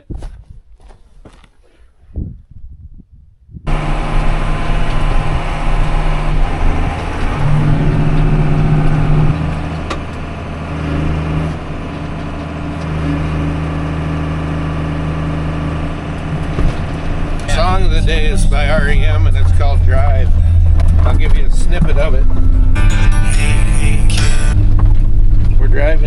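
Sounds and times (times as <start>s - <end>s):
vehicle engine running: 3.6s - 26.0s.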